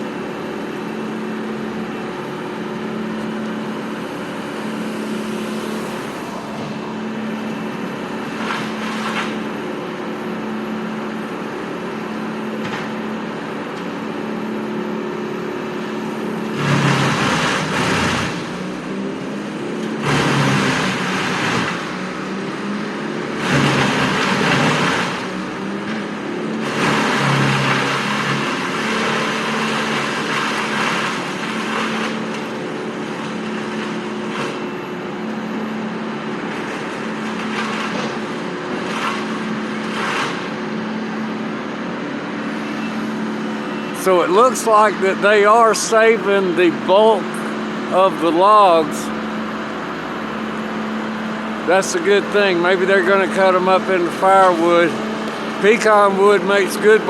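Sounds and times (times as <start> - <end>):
heavy diesel machinery running: 0.0 - 57.0
loud rough engine surges: 0.0 - 57.0.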